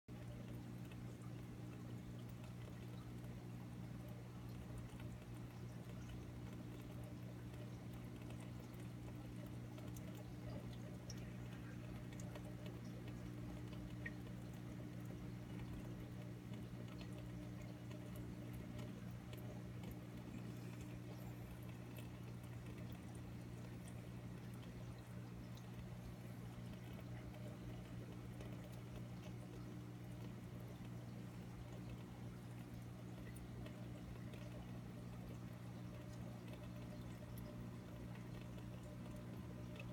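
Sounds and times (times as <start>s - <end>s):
aquarium equipment humming: 0.1s - 39.9s
water trickling: 0.1s - 39.9s
soft ticks: 0.2s - 39.9s.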